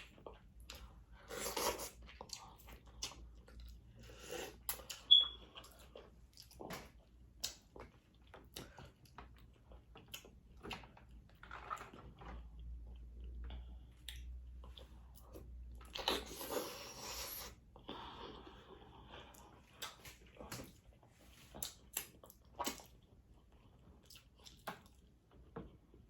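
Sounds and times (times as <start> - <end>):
wet chewing and smacking: 0.0 - 26.0.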